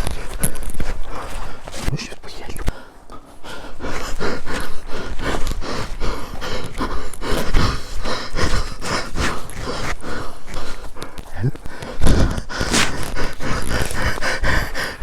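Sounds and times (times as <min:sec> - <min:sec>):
footsteps on rough ground: 0:00.0 - 0:15.0
person panting: 0:00.0 - 0:15.0.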